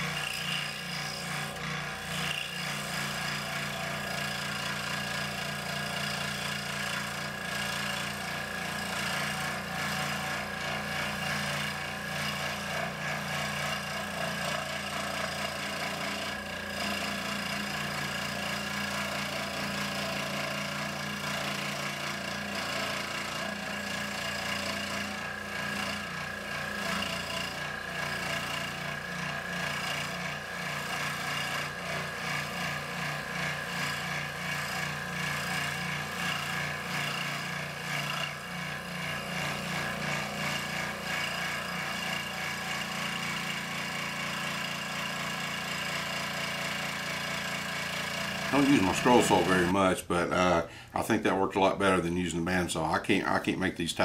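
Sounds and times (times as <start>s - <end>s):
scroll saw cutting wood: 0.0s - 54.0s.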